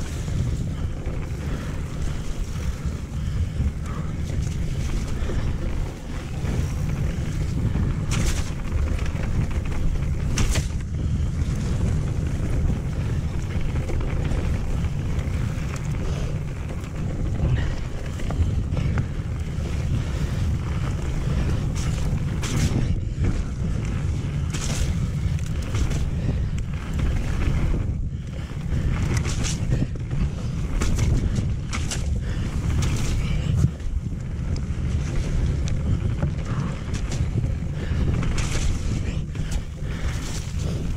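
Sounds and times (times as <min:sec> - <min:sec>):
bike knocking and rattling: 0:00.0 - 0:40.9
bike tyre noise on wet trail: 0:00.0 - 0:40.9
wind rumble on microphone: 0:00.0 - 0:40.9.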